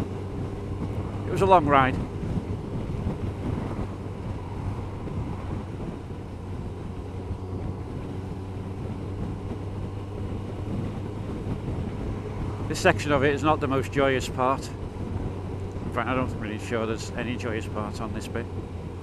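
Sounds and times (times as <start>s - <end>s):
motorcycle engine cruising: 0.0s - 19.0s
wind buffeting microphone: 0.0s - 19.0s.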